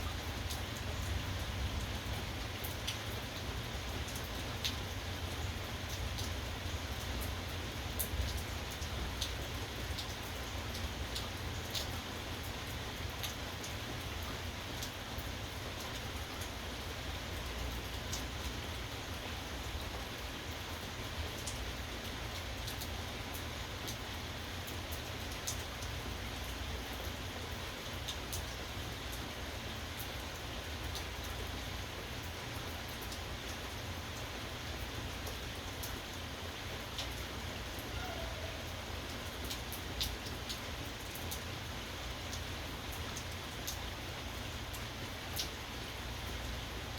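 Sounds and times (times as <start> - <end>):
raindrops ticking close by: 0.0 - 46.9
steady rain falling: 0.0 - 46.9.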